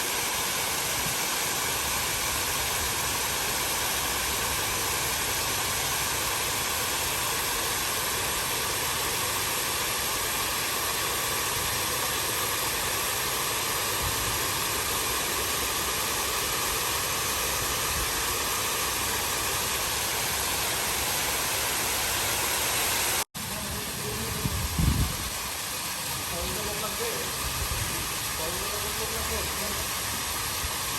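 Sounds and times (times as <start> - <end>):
water fountain splashing: 0.0 - 30.9.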